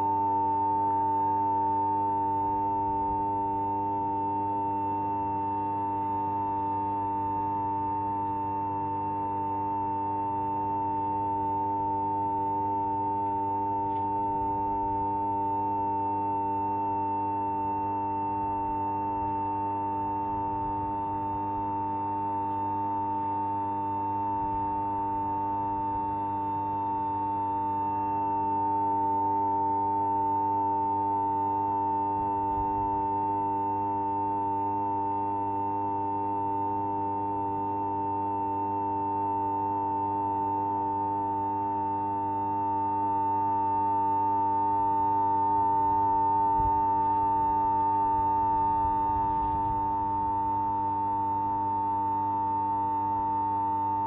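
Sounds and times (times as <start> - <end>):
faint low buzz: 0.0 - 54.0
steady high-pitched tone: 0.0 - 54.0.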